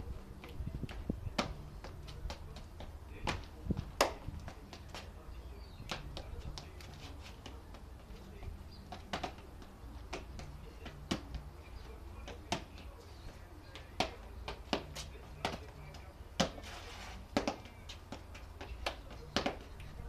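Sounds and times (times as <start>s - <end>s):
boots tapping on brick paving: 0.0s - 20.0s.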